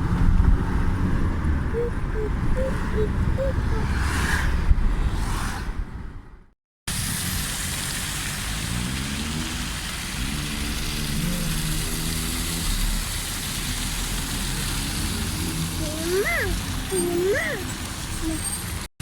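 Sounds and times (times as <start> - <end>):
car driving rushing noise: 0.0 - 16.9.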